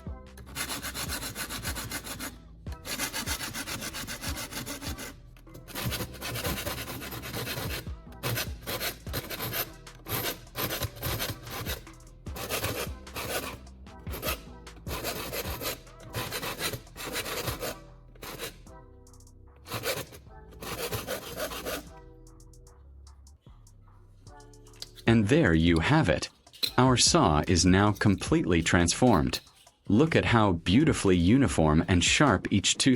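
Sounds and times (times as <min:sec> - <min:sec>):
file rasping on saw teeth: 0:00.0 - 0:18.7, 0:19.6 - 0:22.0, 0:24.6 - 0:30.2.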